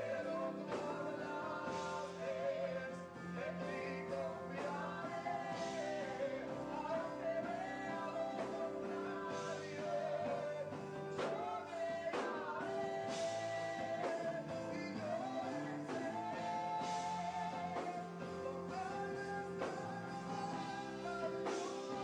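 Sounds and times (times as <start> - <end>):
singer over full band: 0.0 - 22.0.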